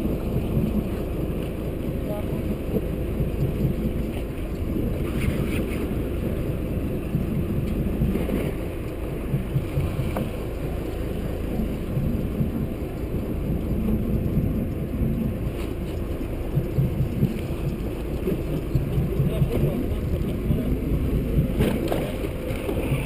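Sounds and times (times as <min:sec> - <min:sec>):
boat motor rumbling: 0:00.0 - 0:23.0
wind buffeting microphone: 0:00.0 - 0:23.0.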